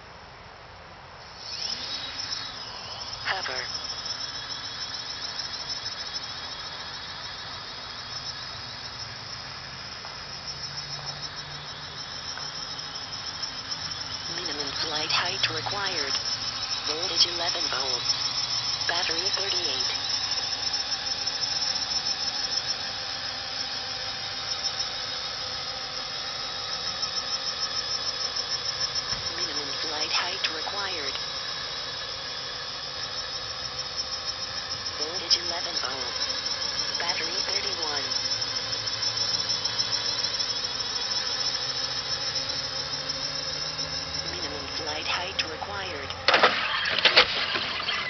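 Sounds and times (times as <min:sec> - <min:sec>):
quadcopter propellers whining: 0:00.0 - 0:48.0.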